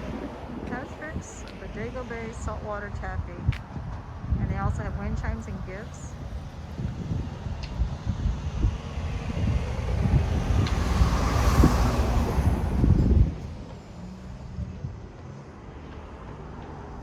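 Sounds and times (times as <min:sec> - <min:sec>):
steady road noise: 0:00.0 - 0:17.0
vehicle passing: 0:00.0 - 0:17.0
wind rumble on microphone: 0:00.0 - 0:17.0.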